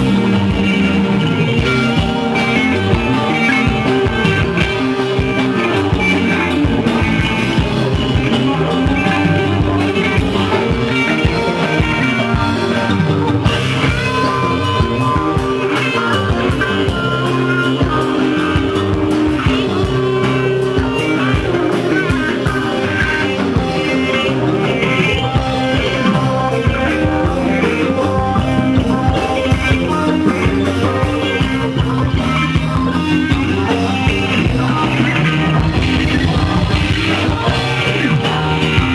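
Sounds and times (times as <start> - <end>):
loud electric guitars: 0.0 - 38.9
steady drum beat: 0.0 - 38.9.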